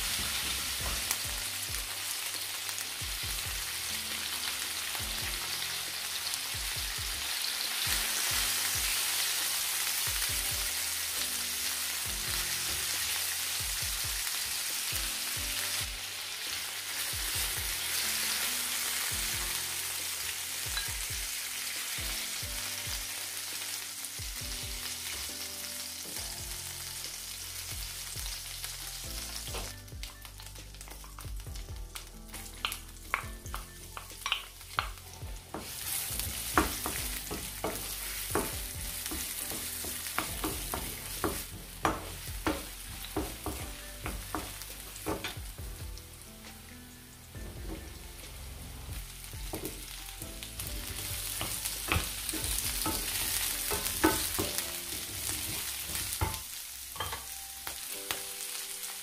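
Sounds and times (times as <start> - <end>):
hot oil sizzling in a frying pan: 0.0 - 59.0.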